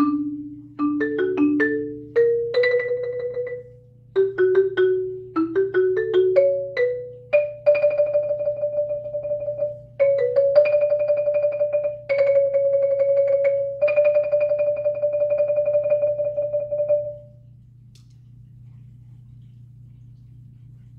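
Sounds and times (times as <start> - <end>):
marimba rolls: 0.0 - 17.4.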